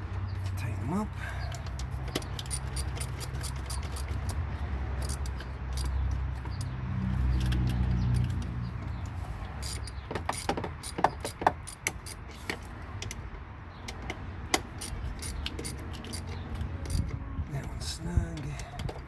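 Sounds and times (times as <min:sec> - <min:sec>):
hand tools clicking and clinking: 0:01.4 - 0:13.2, 0:13.8 - 0:19.0.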